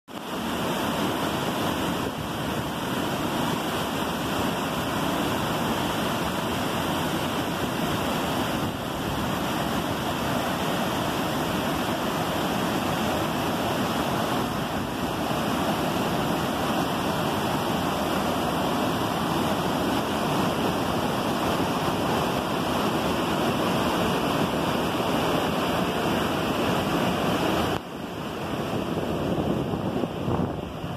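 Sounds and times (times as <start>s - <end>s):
waterfall rushing over boulders: 0.1s - 30.9s.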